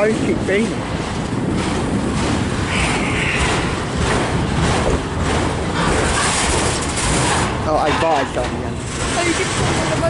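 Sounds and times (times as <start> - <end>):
freight train wheels on rail: 0.0 - 10.0.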